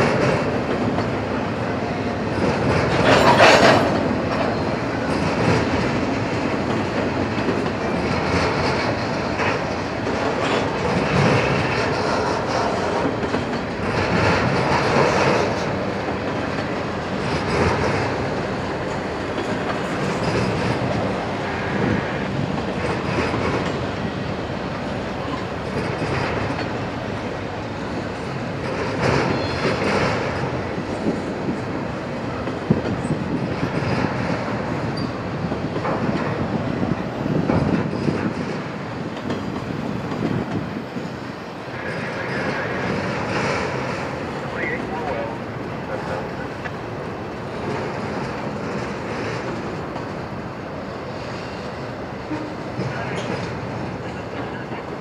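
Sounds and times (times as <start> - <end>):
train wheels clacking over rail joints: 0.0 - 55.0.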